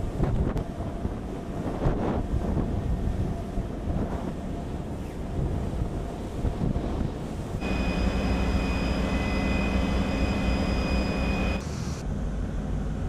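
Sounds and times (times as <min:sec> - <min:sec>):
low rumbling noise: 0:00.0 - 0:13.0
machinery hum with high whine: 0:00.0 - 0:13.0.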